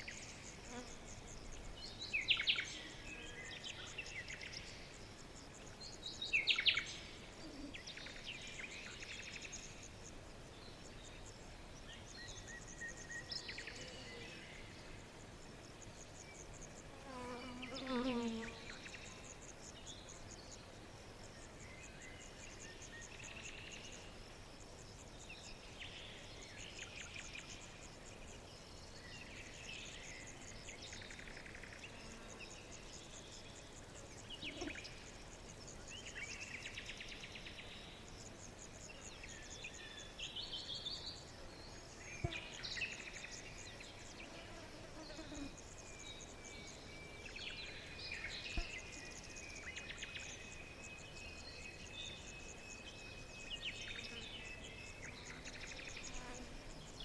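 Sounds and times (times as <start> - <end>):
insect-like chirping: 0.0 - 57.0.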